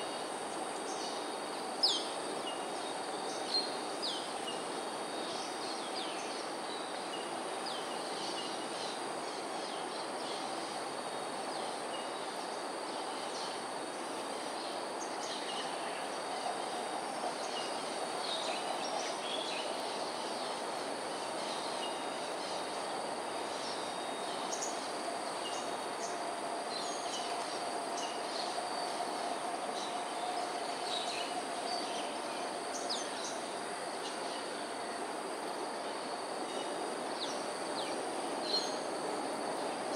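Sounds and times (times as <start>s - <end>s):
high insect drone: 0.0s - 39.9s
steady hiss: 0.0s - 39.9s.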